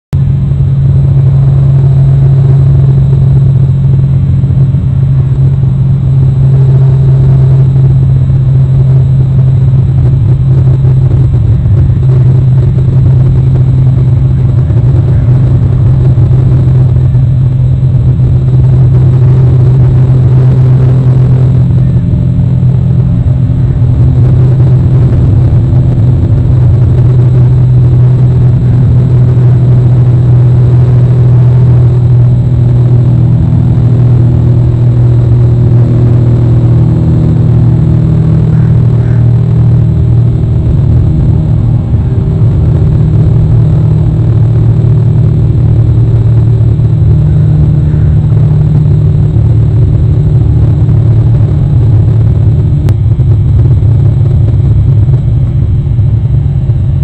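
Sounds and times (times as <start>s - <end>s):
low rumble with deep hum: 0.0s - 57.0s.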